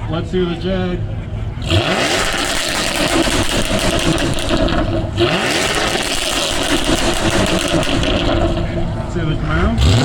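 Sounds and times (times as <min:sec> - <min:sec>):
car engine revving: 0:01.6 - 0:10.0.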